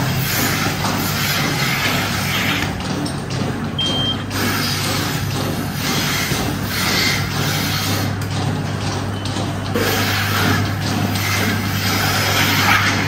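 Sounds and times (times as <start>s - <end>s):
milking machine hum: 0.0s - 13.0s.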